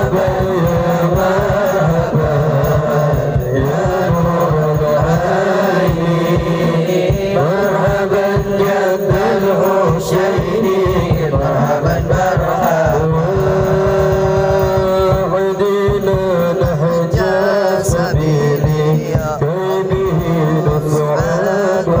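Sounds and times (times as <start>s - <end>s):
man chanting into a microphone: 0.0s - 22.0s
quick steady drumming: 0.0s - 22.0s.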